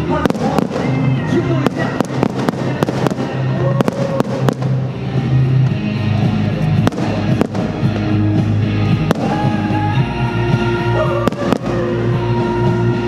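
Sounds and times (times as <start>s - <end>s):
fireworks bangs: 0.0s - 13.0s
loud background music: 0.0s - 13.0s.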